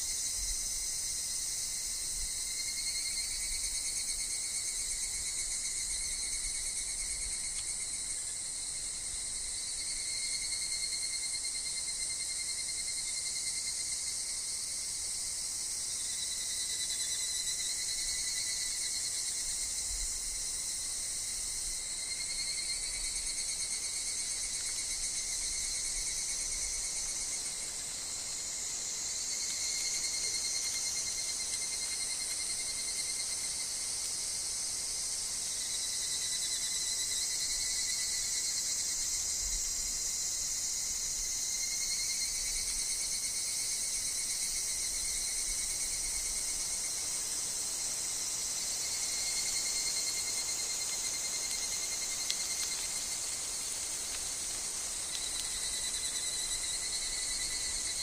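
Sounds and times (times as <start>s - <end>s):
cicadas shrilling: 0.0s - 58.0s
insects trilling: 0.0s - 58.0s.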